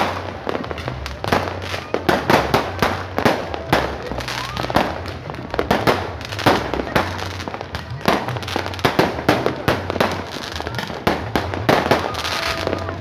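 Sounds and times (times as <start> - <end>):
fireworks banging and popping: 0.0 - 13.0.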